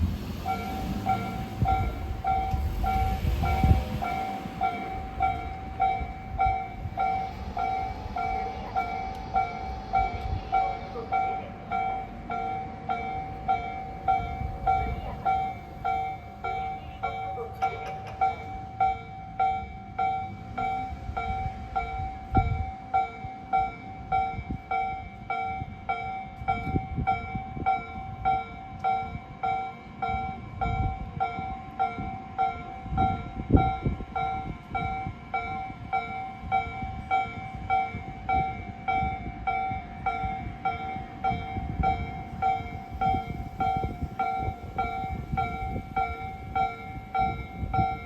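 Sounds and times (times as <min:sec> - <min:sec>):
train rumbling over crossing: 0:00.0 - 0:48.0
level crossing warning bell: 0:00.3 - 0:48.0.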